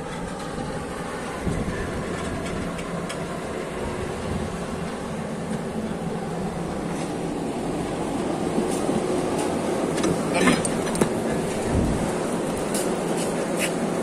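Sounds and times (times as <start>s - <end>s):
ropeway machinery rumbling: 0.0s - 14.0s.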